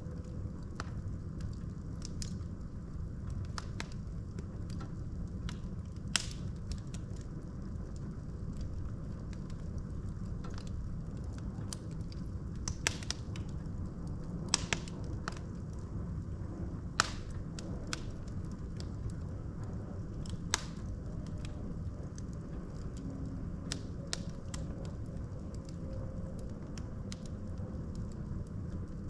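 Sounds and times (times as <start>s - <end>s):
fire crackling and popping: 0.0s - 29.0s
low rumble of flame: 0.0s - 29.0s.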